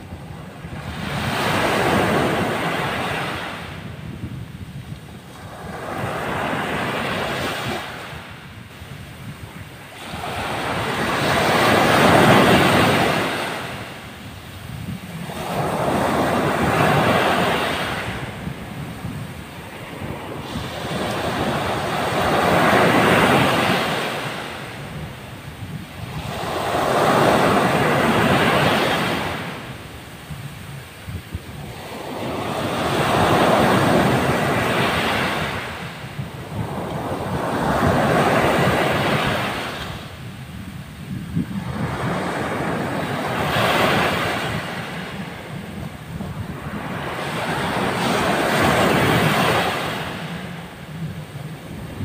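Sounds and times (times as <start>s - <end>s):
ocean waves washing in: 0.0s - 52.0s.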